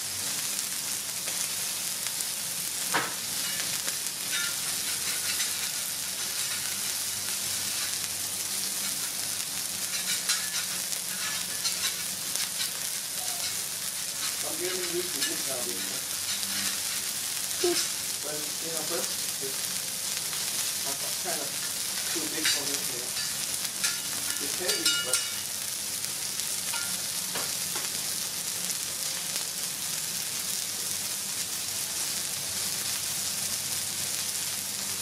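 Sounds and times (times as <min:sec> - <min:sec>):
burger patties sizzling on griddle: 0:00.0 - 0:35.0.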